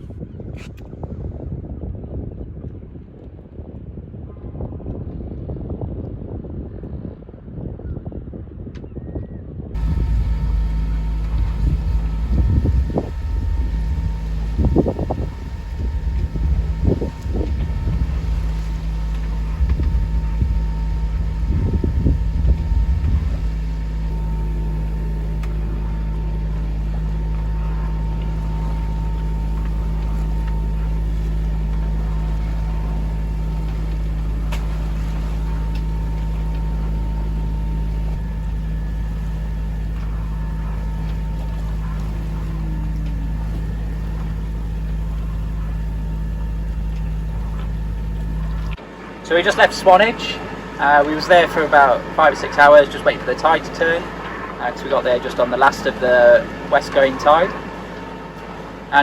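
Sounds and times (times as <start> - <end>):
diesel engine droning: 9.8 - 59.0.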